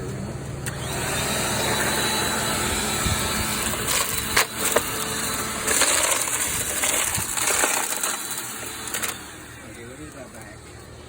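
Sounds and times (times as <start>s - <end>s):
vacuum cleaner running: 0.5s - 11.0s
grit rattling through vacuum: 1.6s - 10.6s.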